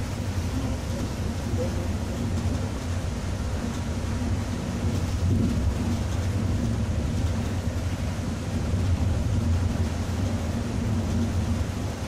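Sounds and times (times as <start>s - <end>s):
bus diesel engine cruising: 0.0s - 12.0s
rain hiss: 0.0s - 12.0s
tyres on wet road: 0.0s - 12.0s.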